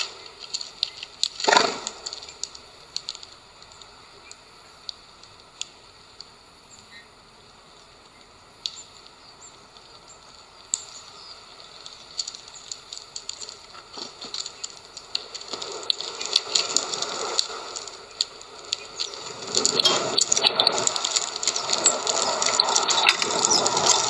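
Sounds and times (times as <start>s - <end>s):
beaks cracking seed husks: 0.0s - 7.0s, 7.8s - 24.0s.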